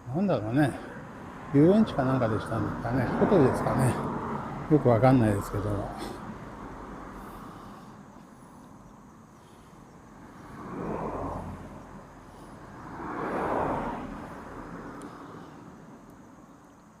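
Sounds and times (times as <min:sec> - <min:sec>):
vehicles passing by: 0:00.0 - 0:17.0.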